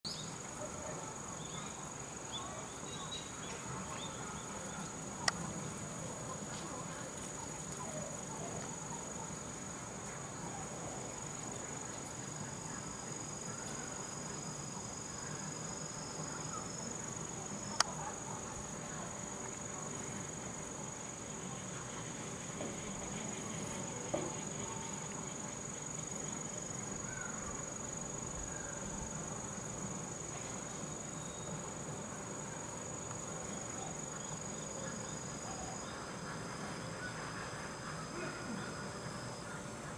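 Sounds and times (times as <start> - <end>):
lower insect trill: 0.1 - 39.9.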